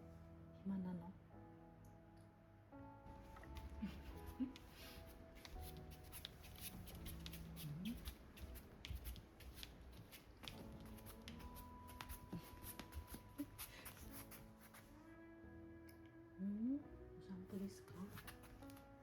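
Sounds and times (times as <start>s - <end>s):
quiet background music: 0.0s - 19.0s.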